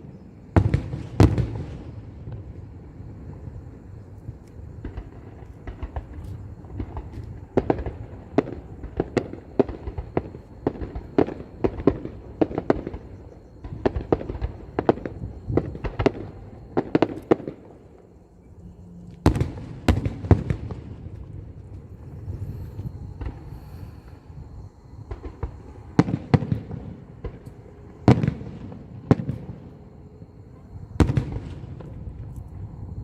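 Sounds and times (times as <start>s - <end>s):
fireworks bangs: 0.6s - 2.6s, 4.8s - 17.8s, 19.2s - 29.7s, 31.0s - 32.2s.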